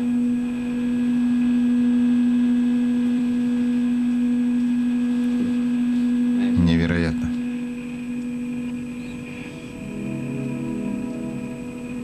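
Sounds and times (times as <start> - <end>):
steady low humming tone: 0.0 - 12.0.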